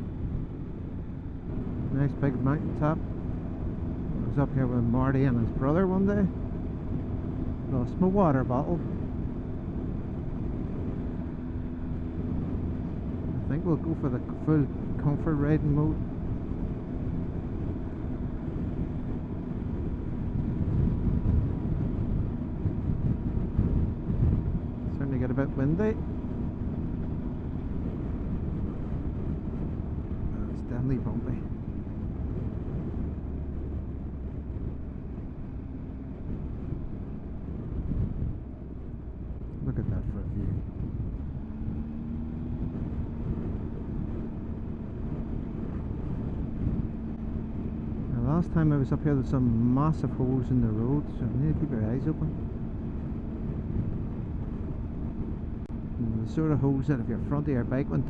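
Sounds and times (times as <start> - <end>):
motorcycle engine running: 0.0 - 58.0
road rumble: 0.0 - 58.0
wind buffeting microphone: 0.0 - 58.0.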